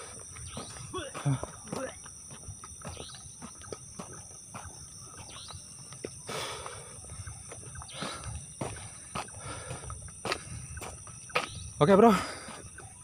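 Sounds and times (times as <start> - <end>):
crickets and insects singing: 0.0 - 13.0.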